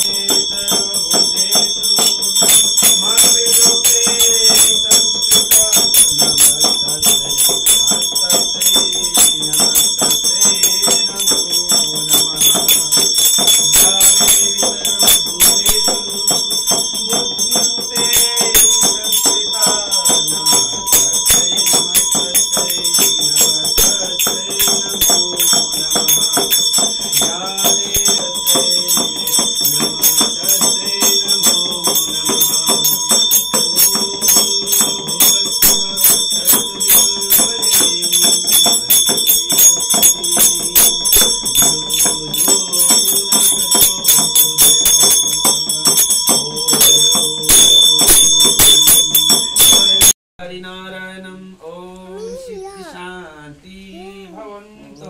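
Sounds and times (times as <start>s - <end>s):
devotional music with singing: 0.0s - 49.8s
brass hand bell ringing rapidly: 0.0s - 50.2s.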